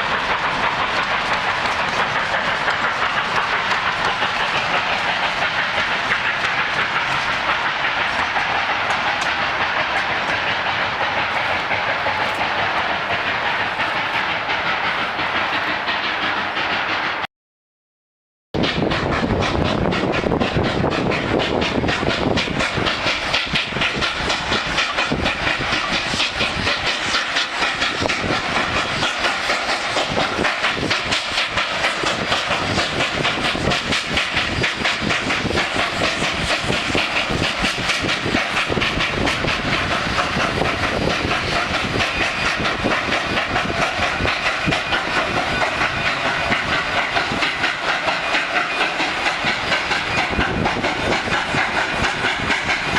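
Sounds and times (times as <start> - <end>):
train wheels clicking over rails: 0.0 - 17.3, 18.6 - 52.9.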